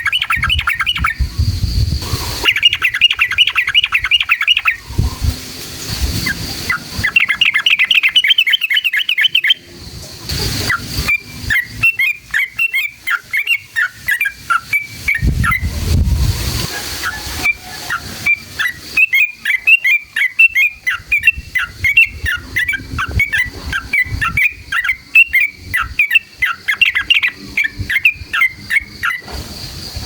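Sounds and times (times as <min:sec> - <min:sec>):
bulbul singing: 0:00.0 - 0:05.4, 0:06.2 - 0:15.8, 0:17.0 - 0:29.3.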